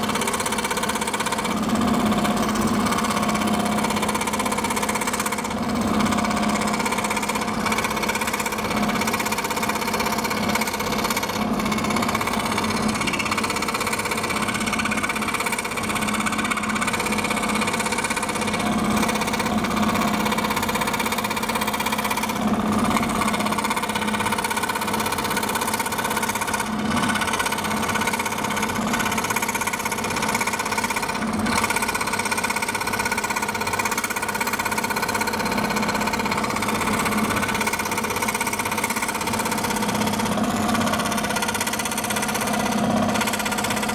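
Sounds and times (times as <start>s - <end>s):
scroll saw cutting acrylic: 0.0s - 43.9s.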